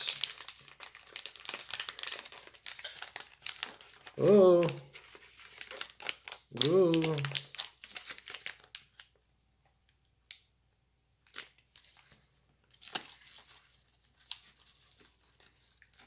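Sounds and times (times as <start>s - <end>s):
plastic wrapper crinkling and tearing: 0.0s - 10.5s, 11.2s - 16.0s.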